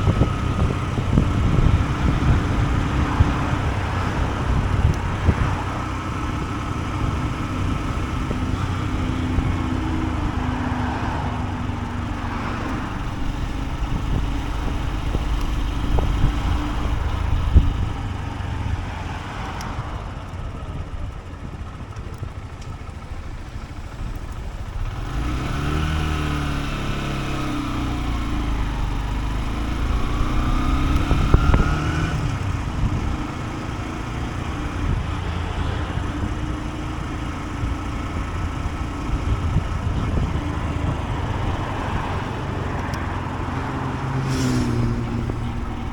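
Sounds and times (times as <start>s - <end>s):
motorcycle engine running: 0.0s - 44.1s, 45.0s - 45.9s
wind and road noise: 0.0s - 45.9s.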